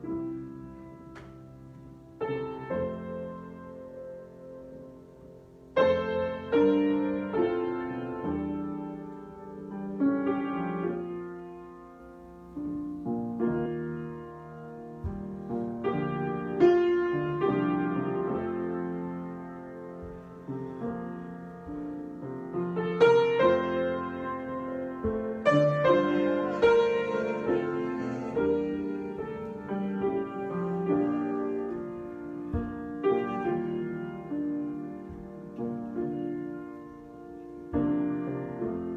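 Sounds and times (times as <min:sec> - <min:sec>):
solo piano improvisation: 0:00.0 - 0:38.9.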